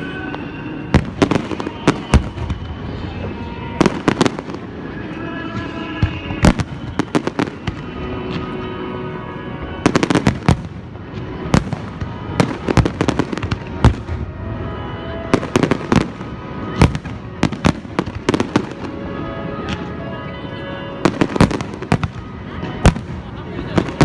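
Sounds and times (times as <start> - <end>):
background music: 0.0 - 24.0
fireworks bangs and crackles: 0.0 - 24.0.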